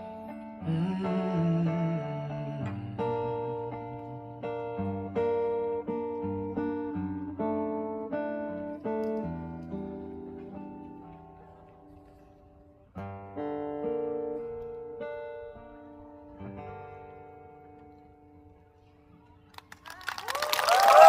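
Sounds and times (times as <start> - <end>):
acoustic guitar chords: 0.0 - 19.2.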